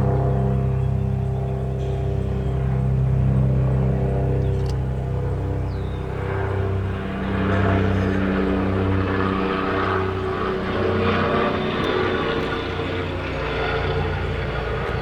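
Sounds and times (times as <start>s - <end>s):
engine and exhaust drone: 0.0s - 15.0s.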